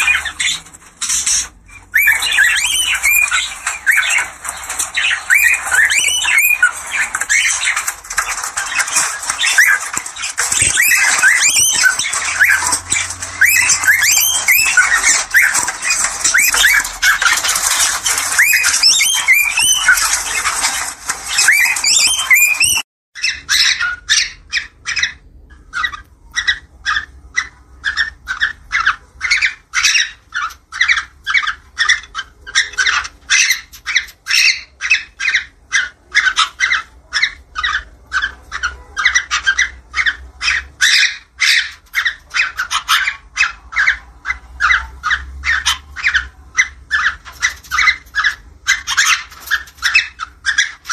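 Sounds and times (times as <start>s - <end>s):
cockatiel calls: 0.0s - 50.9s.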